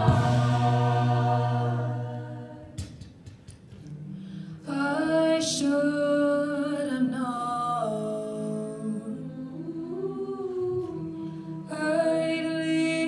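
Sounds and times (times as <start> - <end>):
a cappella group singing chords: 0.0 - 3.0, 4.0 - 13.0.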